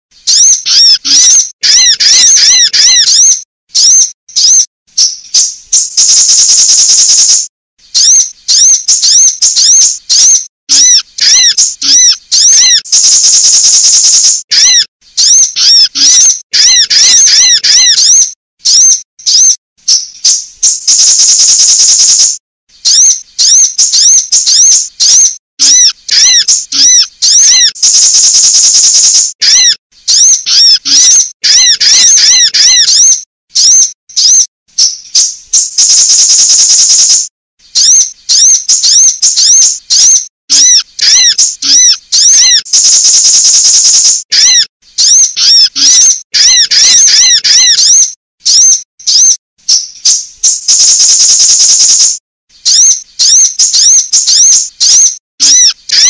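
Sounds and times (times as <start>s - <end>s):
bird buzzy trill: 0.1s - 56.0s
bird rapid high chirps: 0.1s - 56.0s.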